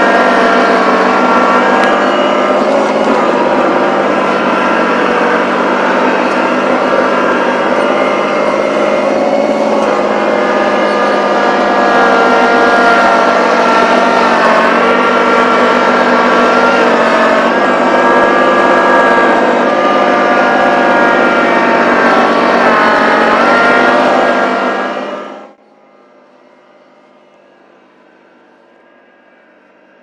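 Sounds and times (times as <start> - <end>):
tractor engine under load: 0.0 - 25.6.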